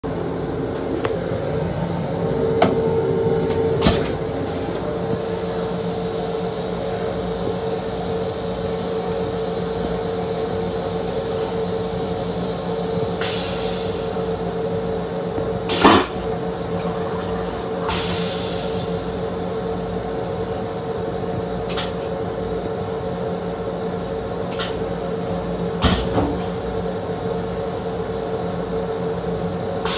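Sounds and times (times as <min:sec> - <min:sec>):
electric train hum and rumble: 0:00.0 - 0:29.9.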